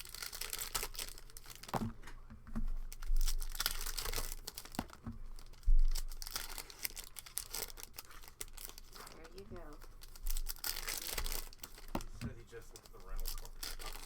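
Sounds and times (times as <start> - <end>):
foil wrappers tearing and crinkling: 0.0 - 1.9, 2.8 - 14.0
cards handled: 0.0 - 14.0.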